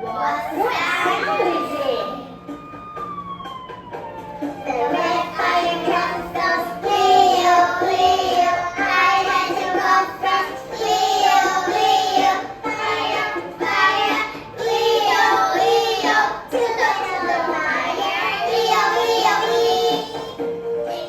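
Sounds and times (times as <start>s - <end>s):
young children singing: 0.0s - 2.4s, 4.7s - 21.0s.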